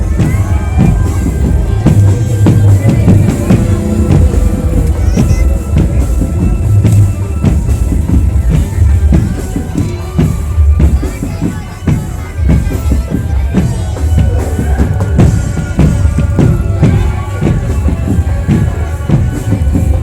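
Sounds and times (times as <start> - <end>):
loud music with drum beat: 0.0 - 20.0.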